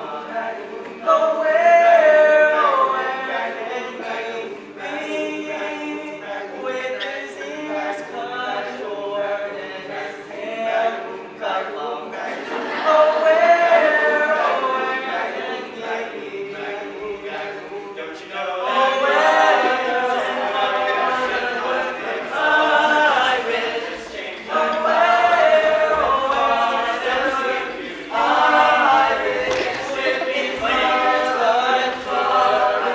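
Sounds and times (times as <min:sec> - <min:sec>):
male a cappella group singing: 0:00.0 - 0:32.9.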